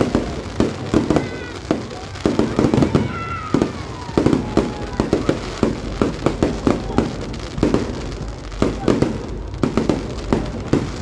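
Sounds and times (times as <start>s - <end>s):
fireworks bangs and bursts: 0.0s - 11.0s.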